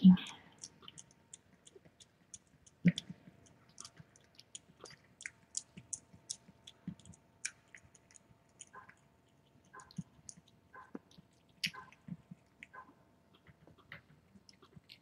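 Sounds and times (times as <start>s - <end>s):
cat chewing food: 0.2s - 15.0s.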